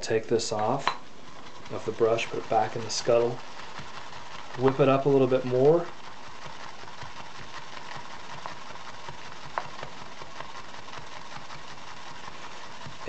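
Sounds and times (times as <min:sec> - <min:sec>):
shaving brush swishing lather: 0:00.0 - 0:13.0.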